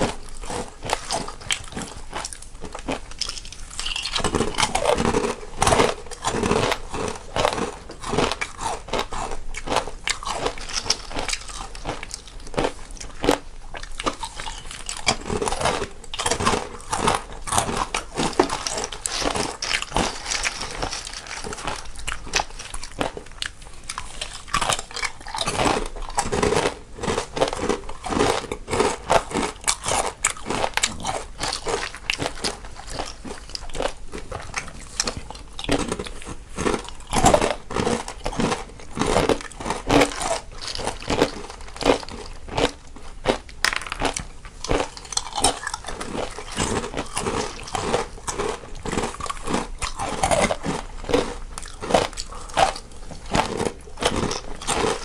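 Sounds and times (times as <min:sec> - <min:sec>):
people crunching crisp snacks: 0:00.0 - 0:55.0.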